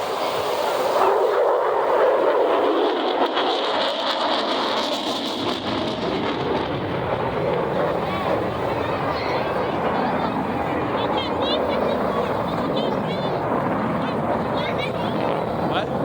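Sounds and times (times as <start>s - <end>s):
fighter jet passing: 0.0s - 16.0s.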